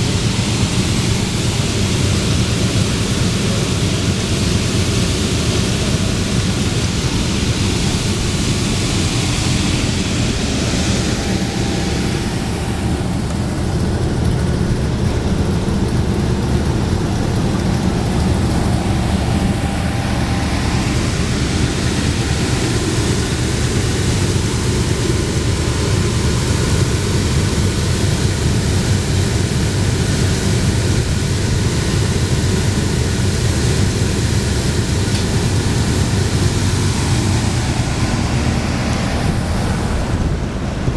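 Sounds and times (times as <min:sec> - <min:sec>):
air conditioner fan rushing: 0:00.0 - 0:40.9
low hum: 0:00.0 - 0:40.9.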